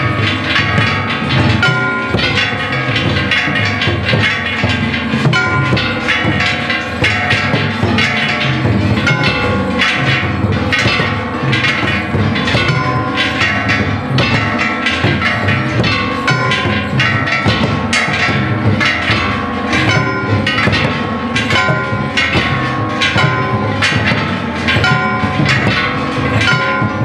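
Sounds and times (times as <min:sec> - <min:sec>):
hand gongs ringing: 0:00.0 - 0:27.0
taiko drum beating: 0:00.0 - 0:27.0.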